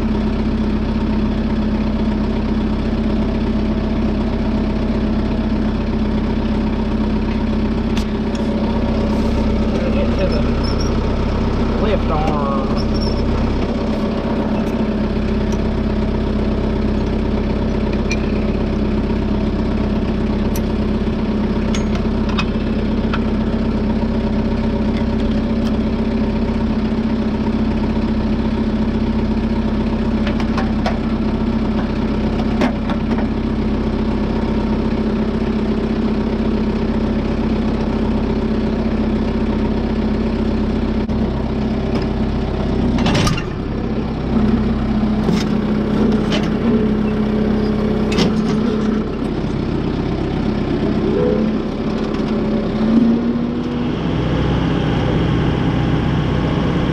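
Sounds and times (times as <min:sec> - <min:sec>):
tractor diesel engine idling: 0:00.0 - 0:56.9.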